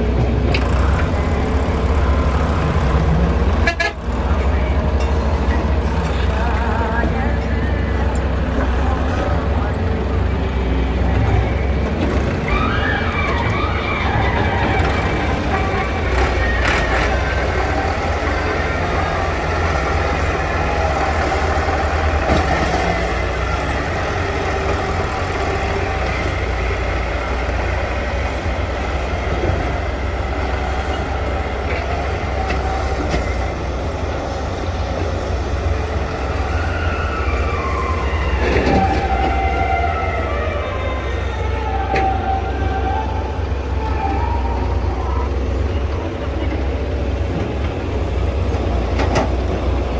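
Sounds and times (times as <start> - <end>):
excavator diesel engine rumbling: 0.0 - 49.9.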